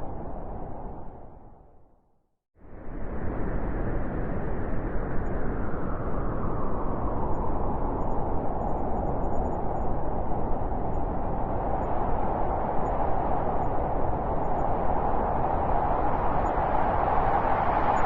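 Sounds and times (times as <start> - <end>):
blizzard wind howling: 0.0 - 2.0, 2.6 - 18.0.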